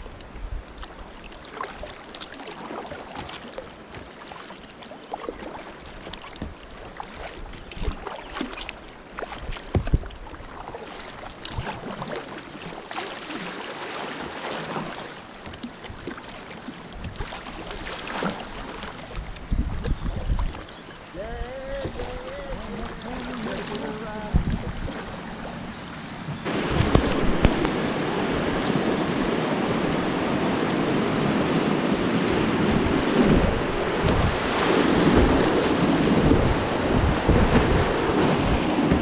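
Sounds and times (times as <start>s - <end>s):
rushing water: 0.0s - 39.0s
paddle splashes: 0.6s - 39.0s.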